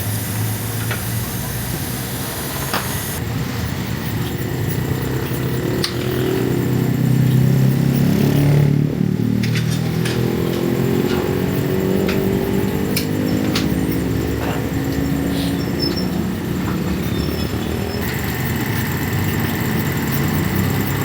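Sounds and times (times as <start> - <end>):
engine running: 0.0 - 21.0
sharp clicks: 4.0 - 21.0.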